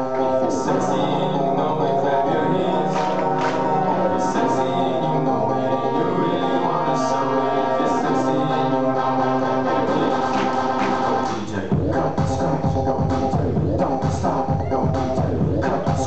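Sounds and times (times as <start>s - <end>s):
choir-like singing over held chords: 0.0s - 16.0s
heavy bass beat: 0.0s - 16.0s.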